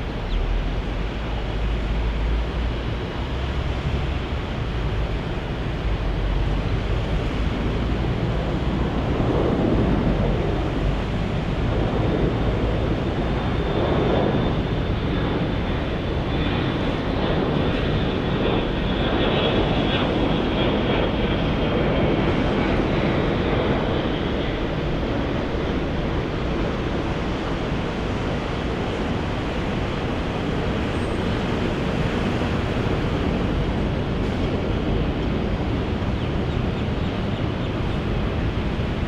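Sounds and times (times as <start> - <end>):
jet engines rushing: 0.0 - 39.0.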